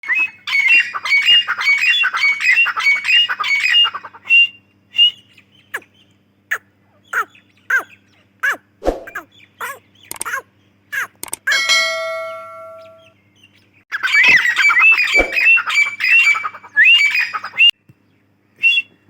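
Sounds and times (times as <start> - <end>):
francolin calling: 0.0 - 11.6, 13.9 - 17.7.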